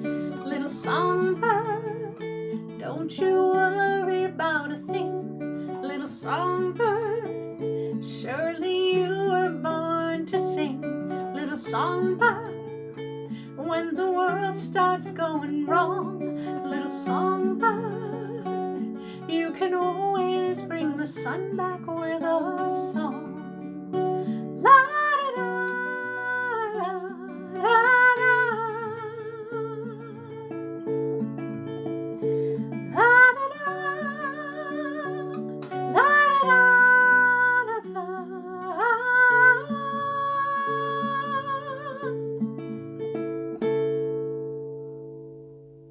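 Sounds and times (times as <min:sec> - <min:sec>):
acoustic guitar: 0:00.0 - 0:45.9.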